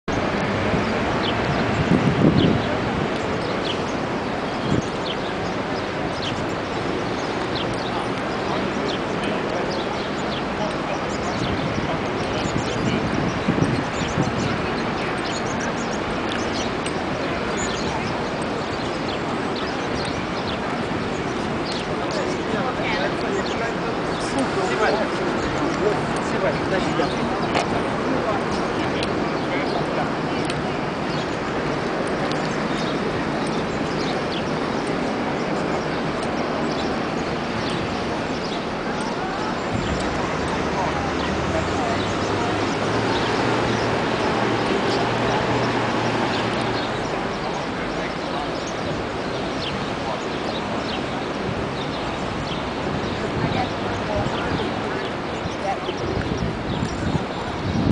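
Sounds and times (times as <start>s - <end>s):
crowd noise: 0.0s - 57.9s
small birds chirping: 0.1s - 57.9s
traffic: 0.1s - 57.9s.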